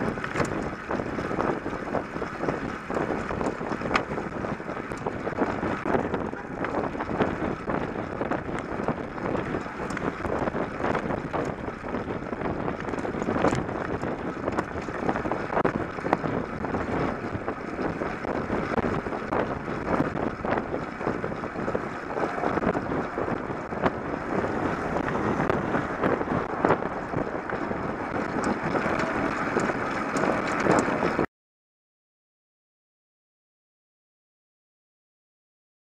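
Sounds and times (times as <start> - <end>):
road rumble: 0.0 - 31.3
wind buffeting microphone: 0.0 - 31.3.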